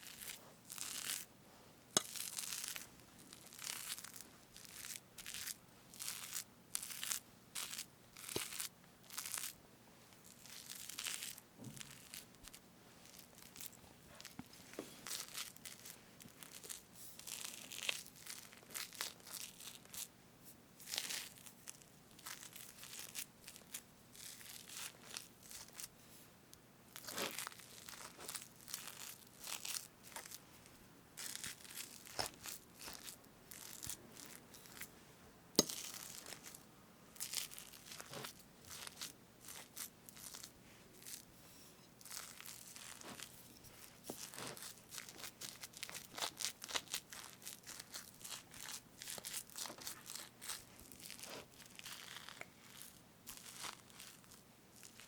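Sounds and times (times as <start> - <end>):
whipped cream being scraped: 0.0 - 1.3, 2.0 - 9.6, 10.2 - 20.1, 20.8 - 25.9, 27.0 - 30.4, 31.2 - 34.9, 35.6 - 55.0.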